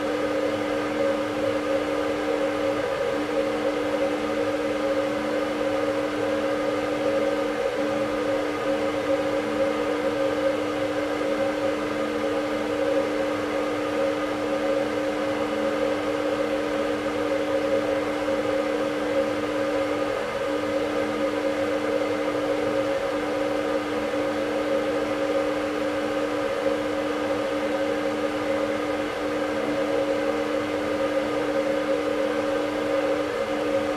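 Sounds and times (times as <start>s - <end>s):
fluorescent light humming: 0.0s - 33.9s.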